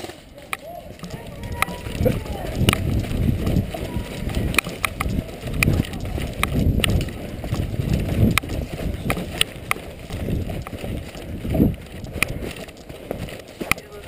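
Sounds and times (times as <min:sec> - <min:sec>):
footsteps: 0:00.0 - 0:14.0
gear jostling: 0:00.0 - 0:14.0.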